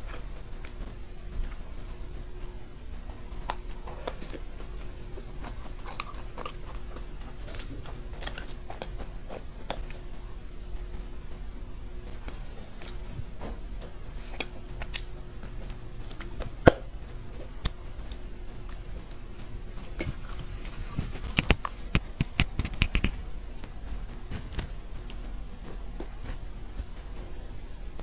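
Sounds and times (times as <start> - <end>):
crisp clicks and crackles: 0.0 - 10.2, 10.8 - 28.0
crunchy chewing: 0.0 - 11.3, 12.0 - 27.4.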